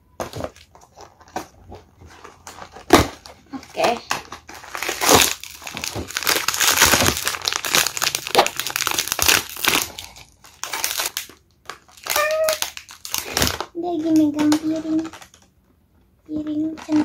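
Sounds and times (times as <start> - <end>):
plastic bag crinkling: 0.2 - 15.5.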